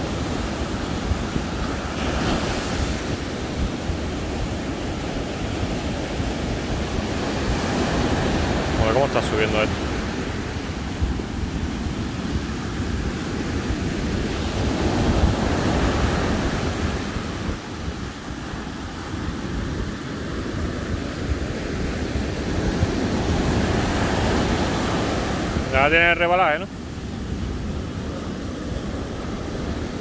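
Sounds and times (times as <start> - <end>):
surf washing on a beach: 0.0 - 30.0
wind buffeting the microphone: 0.0 - 30.0.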